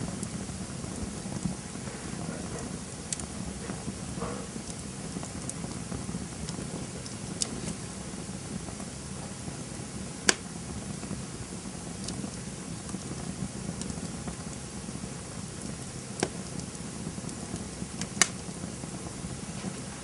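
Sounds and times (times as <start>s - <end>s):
low rush of flames: 0.0s - 20.0s
sharp pops of burning wood: 0.0s - 20.0s
small fire crackles: 0.0s - 20.0s.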